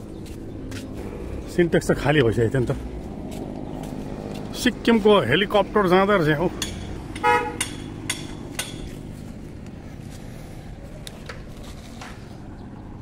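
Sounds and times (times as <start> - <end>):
distant helicopter drone: 0.0 - 13.0.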